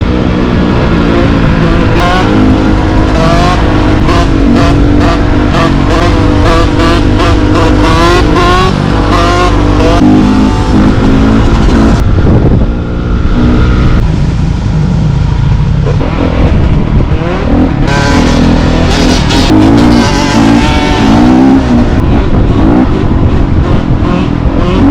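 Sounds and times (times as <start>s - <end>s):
dirt bike engine revving: 0.0s - 14.2s, 15.8s - 24.9s.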